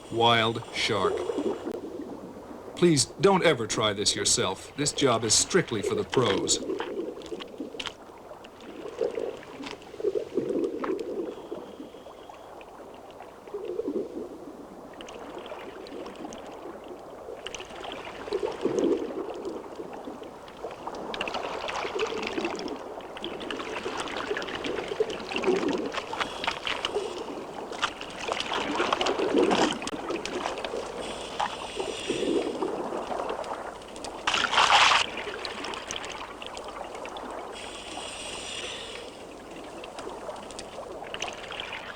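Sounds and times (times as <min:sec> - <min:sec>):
water sloshing and splashing: 0:00.0 - 0:41.9.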